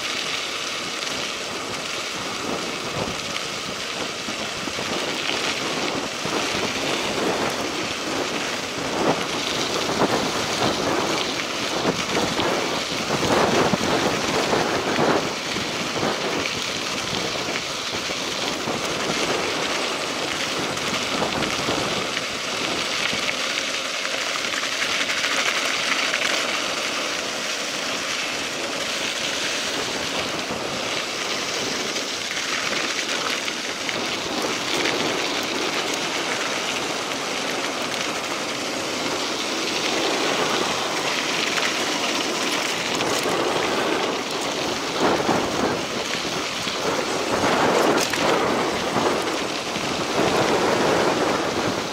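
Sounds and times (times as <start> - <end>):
bike tyres crunching on gravel: 0.0 - 51.9.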